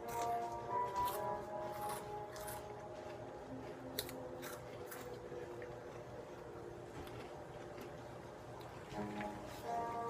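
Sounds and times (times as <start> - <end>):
crunchy snacks being chewed: 0.0 - 8.8
background music with held tones: 0.0 - 10.0.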